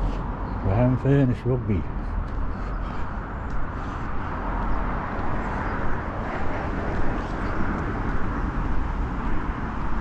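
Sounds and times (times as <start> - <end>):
road traffic rushing: 0.0 - 10.0.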